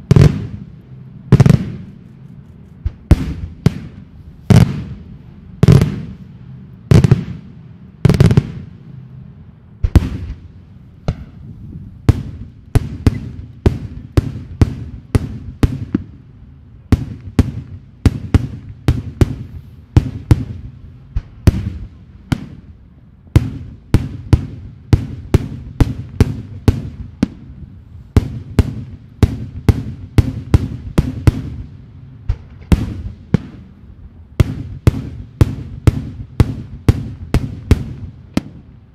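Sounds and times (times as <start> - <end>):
fireworks bangs: 0.0 - 0.7, 1.3 - 2.0, 2.8 - 6.3, 6.9 - 8.8, 9.8 - 11.4, 12.0 - 16.2, 16.9 - 33.8, 34.4 - 38.9.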